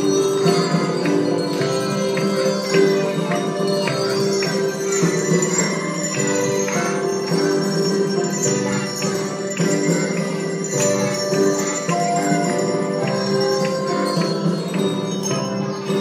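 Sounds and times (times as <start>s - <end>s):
handbell ensemble playing a tune: 0.0s - 16.0s.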